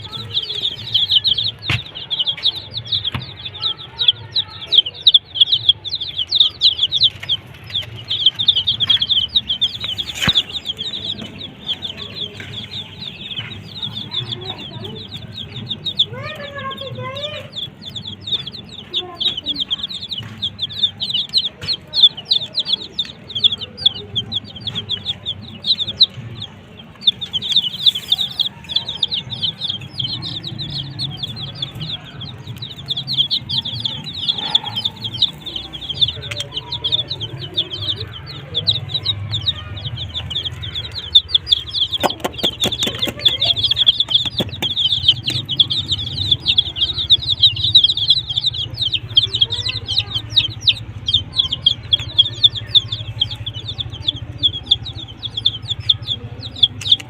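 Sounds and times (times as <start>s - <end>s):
chicks peeping: 0.0s - 57.0s
hen clucking: 0.0s - 57.0s.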